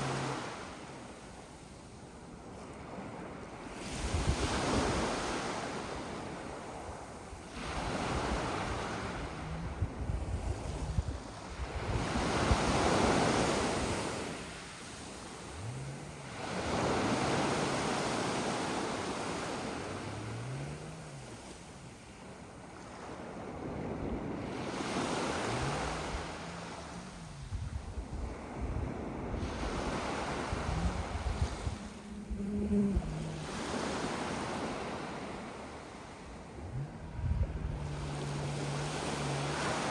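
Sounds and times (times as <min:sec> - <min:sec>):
wind on microphone: 0:02.4 - 0:39.9.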